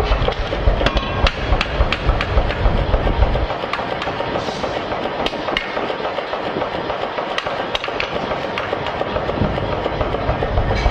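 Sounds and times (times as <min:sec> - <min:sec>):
steady background noise: 0:00.0 - 0:10.9.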